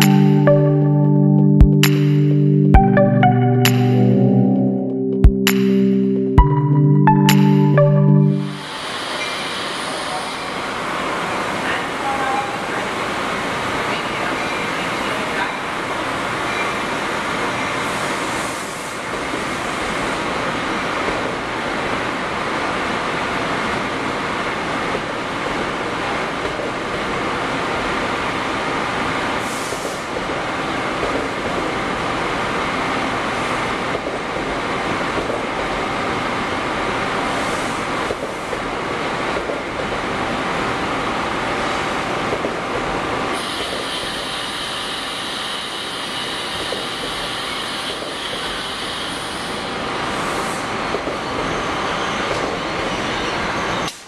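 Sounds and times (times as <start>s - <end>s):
train wheels rumbling on rail: 9.1s - 54.0s.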